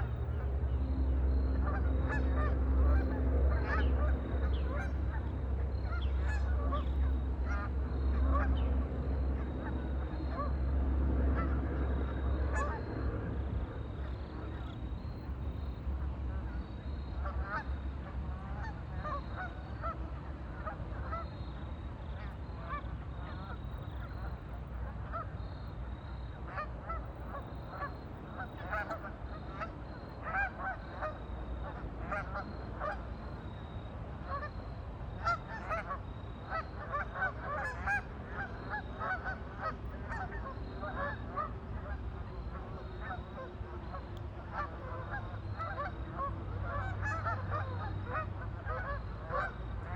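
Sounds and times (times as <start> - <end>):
waterfowl honking: 0.0 - 15.7, 16.3 - 49.9.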